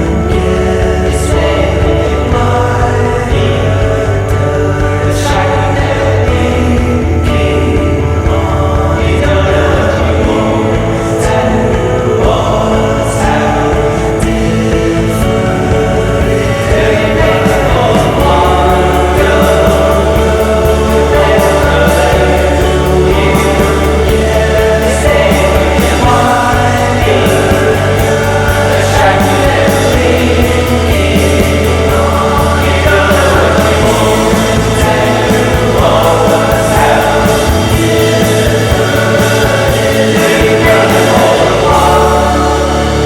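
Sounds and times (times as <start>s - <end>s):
bass line: 0.0s - 43.0s
choir-like singing: 0.0s - 43.0s
drums with cymbal strokes: 0.0s - 43.0s
electric guitar: 0.0s - 43.0s
indie rock band playing: 0.0s - 43.0s.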